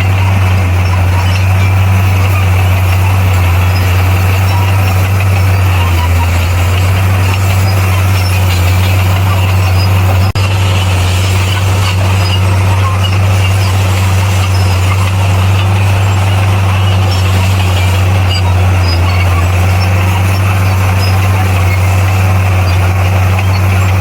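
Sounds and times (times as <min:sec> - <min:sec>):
bulldozer diesel engine droning: 0:00.0 - 0:24.0.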